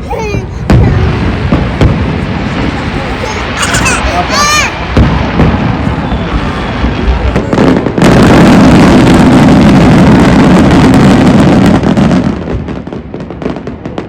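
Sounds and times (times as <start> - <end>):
fireworks bursts and bangs: 0.0 - 14.0.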